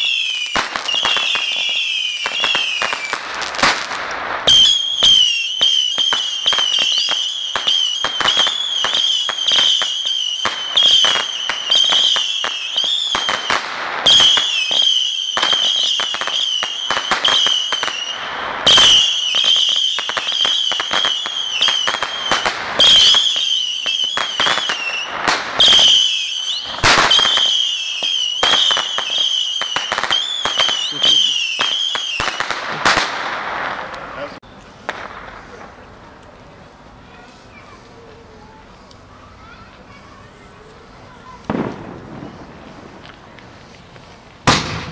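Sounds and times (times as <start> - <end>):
fireworks crackling: 0.0 - 44.9
fireworks whistling: 0.0 - 44.9.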